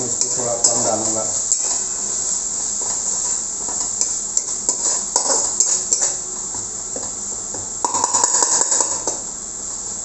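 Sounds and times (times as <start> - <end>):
paste sizzling in a pan: 0.0 - 10.0
spatula scraping and tapping pan: 0.2 - 2.2, 2.8 - 9.2.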